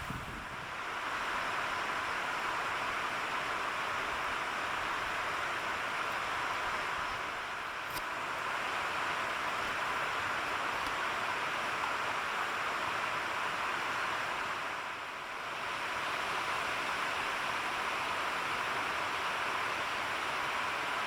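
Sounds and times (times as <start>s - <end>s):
stream water rushing: 0.0s - 21.0s.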